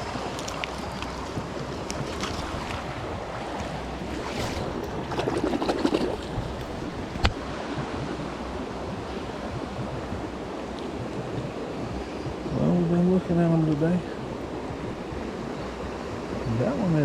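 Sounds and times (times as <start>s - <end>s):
stream water flowing: 0.0s - 16.9s.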